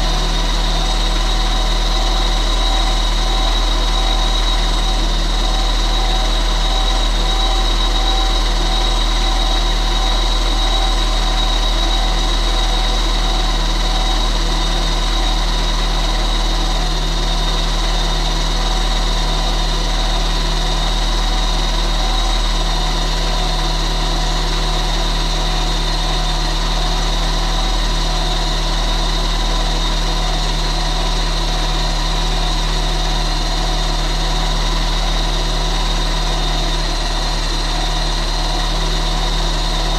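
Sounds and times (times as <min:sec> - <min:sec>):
car engine idling with whine: 0:00.0 - 0:39.9.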